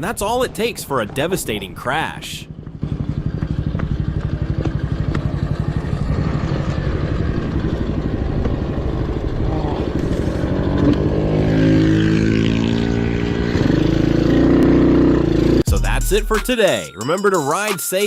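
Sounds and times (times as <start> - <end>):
racing motorcycle engine: 0.0 - 15.8.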